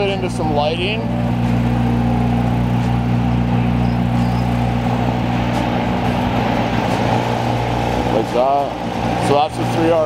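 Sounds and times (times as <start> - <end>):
car engines running at low speed: 0.0 - 10.0.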